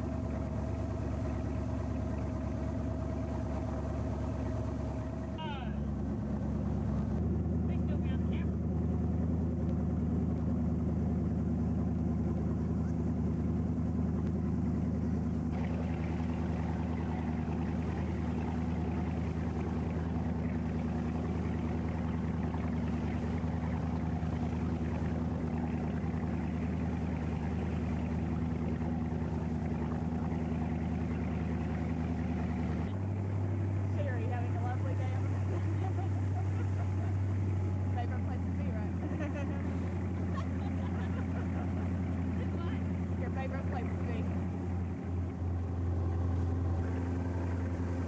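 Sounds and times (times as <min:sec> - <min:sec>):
motorboat engine droning: 0:00.0 - 0:48.0
water rushing: 0:00.0 - 0:48.0
wind: 0:00.0 - 0:48.0.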